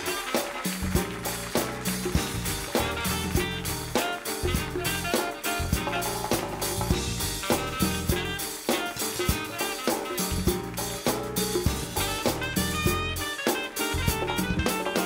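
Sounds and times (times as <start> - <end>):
swing jazz band music: 0.0 - 15.0.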